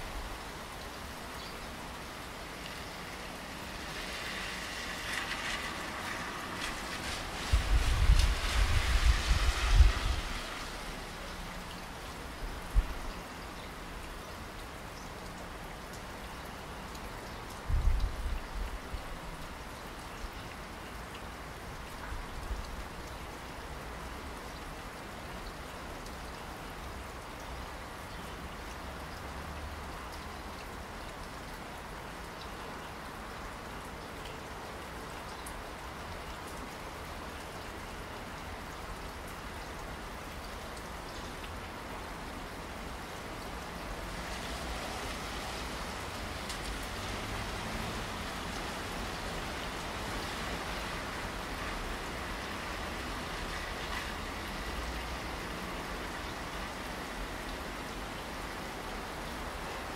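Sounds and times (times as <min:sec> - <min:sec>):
steady rainfall: 0:00.0 - 0:59.9
raindrops ticking: 0:10.3 - 0:59.9.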